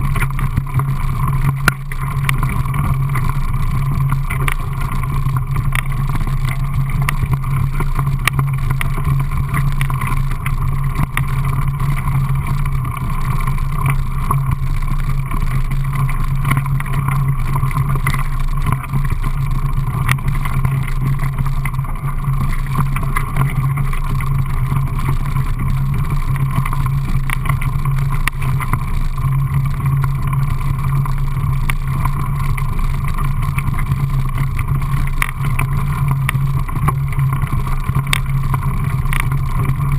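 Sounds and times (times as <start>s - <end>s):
bike rattling clicks and knocks: 0.0s - 39.9s
wind and tyre rumble: 0.0s - 39.9s.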